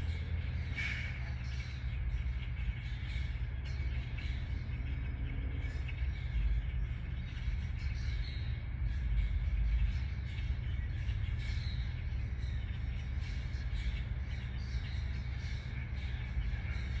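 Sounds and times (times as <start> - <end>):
faint bird calls: 0.0 - 17.0
steady low rumble: 0.0 - 17.0.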